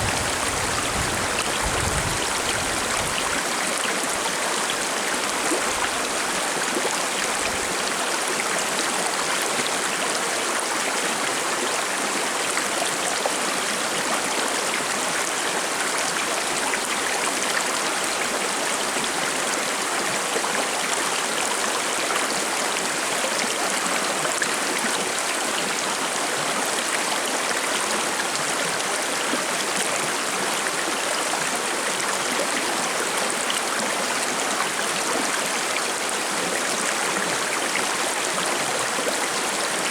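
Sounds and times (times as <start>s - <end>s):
river burbling over stones: 0.0s - 39.9s.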